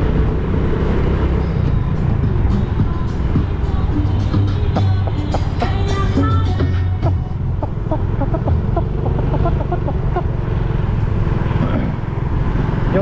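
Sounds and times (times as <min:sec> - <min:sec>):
motorcycle engine running: 0:00.0 - 0:13.0
road and traffic noise: 0:00.0 - 0:13.0.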